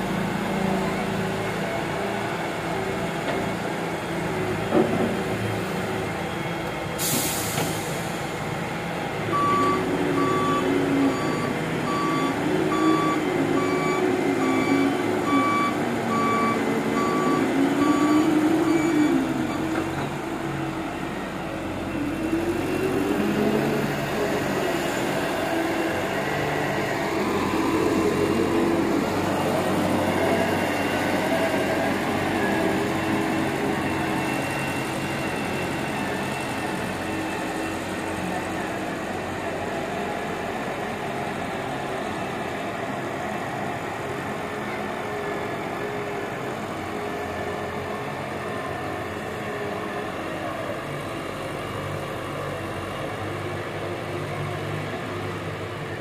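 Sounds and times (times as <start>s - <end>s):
diesel excavator engine running: 0.0s - 56.0s.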